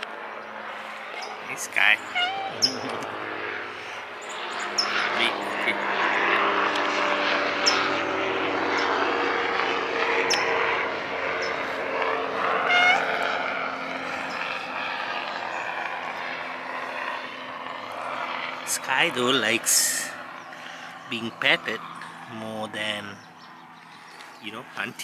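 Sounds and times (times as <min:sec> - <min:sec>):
airplane engine drone: 0:00.0 - 0:25.0.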